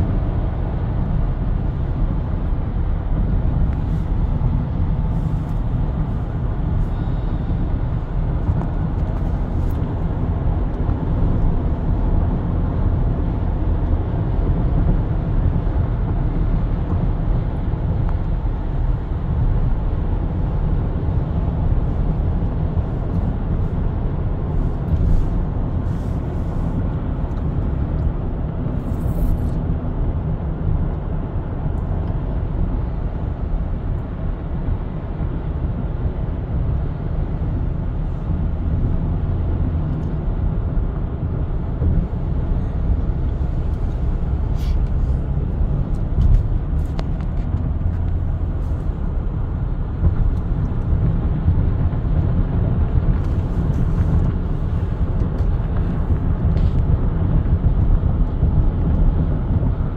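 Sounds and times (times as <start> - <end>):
car road noise inside cabin: 0.0 - 59.9.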